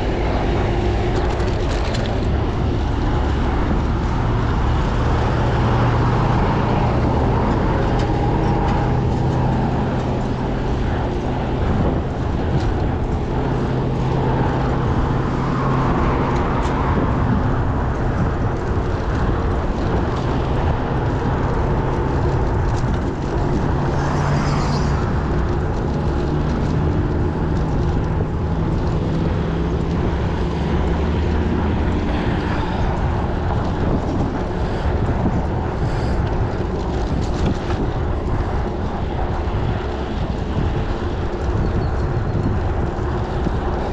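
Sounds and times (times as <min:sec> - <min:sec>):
bicycle road noise: 0:00.0 - 0:43.9.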